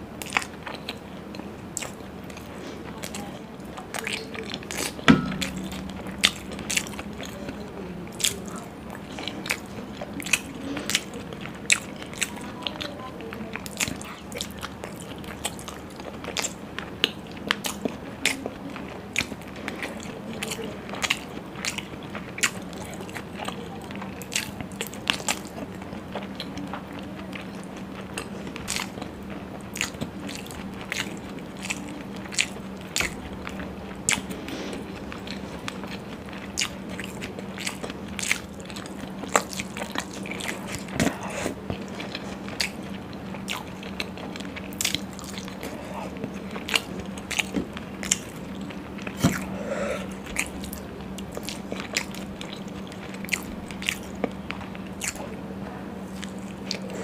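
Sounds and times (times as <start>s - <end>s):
steady low hum: 0.0s - 57.0s
wet chewing and lip smacks: 0.2s - 57.0s.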